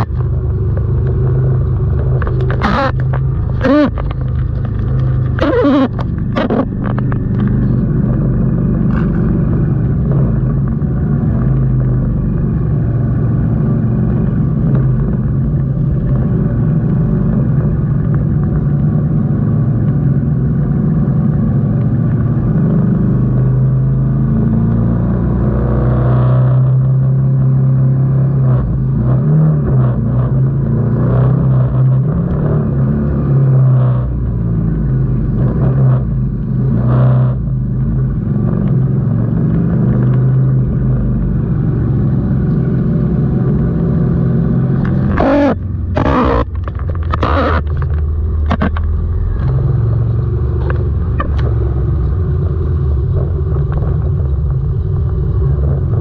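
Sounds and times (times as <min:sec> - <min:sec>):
other motorcycle engines: 0:00.0 - 0:56.0.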